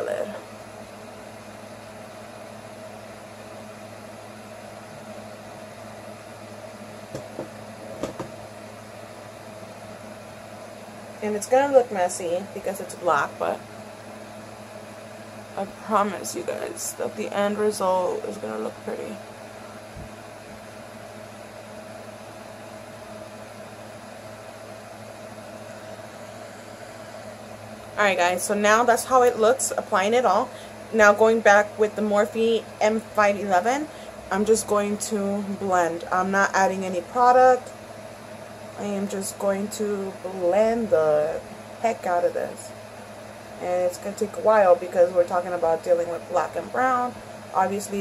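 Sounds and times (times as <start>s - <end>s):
low room hum: 0.0s - 48.0s.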